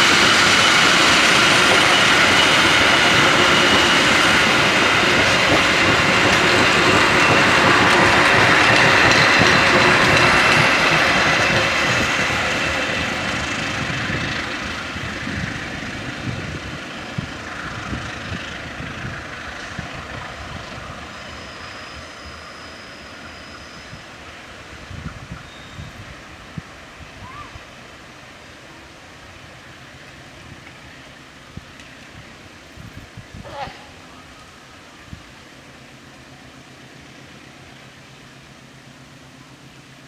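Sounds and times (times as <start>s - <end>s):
train wheels rolling on rails: 0.0s - 40.0s.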